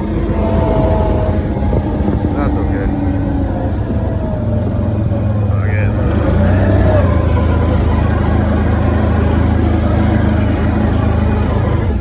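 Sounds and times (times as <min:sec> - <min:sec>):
off-road vehicle engine: 0:00.0 - 0:12.0.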